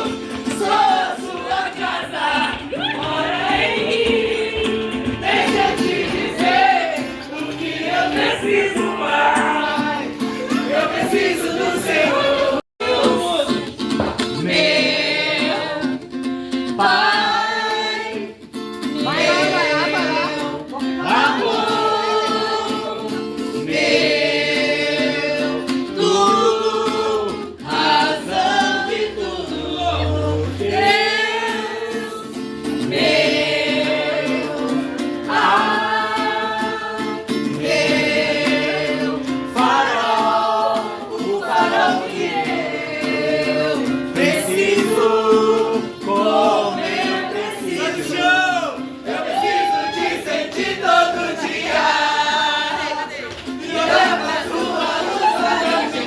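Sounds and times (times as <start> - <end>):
voices singing gospel song: 0.0 - 56.0.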